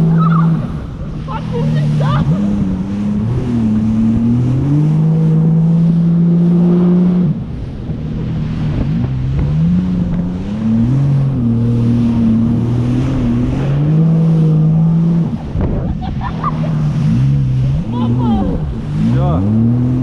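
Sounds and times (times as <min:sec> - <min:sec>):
jet ski engine running: 0:00.0 - 0:20.0
water noise: 0:00.0 - 0:20.0.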